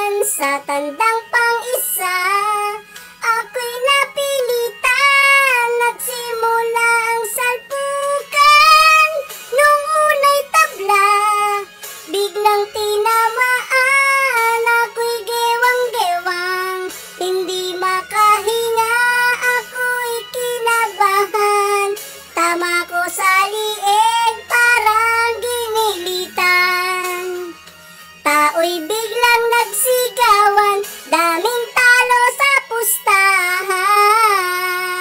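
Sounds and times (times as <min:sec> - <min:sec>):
high-pitched singing voice: 0:00.0 - 0:27.6, 0:28.2 - 0:35.0
faint backing music: 0:00.0 - 0:35.0.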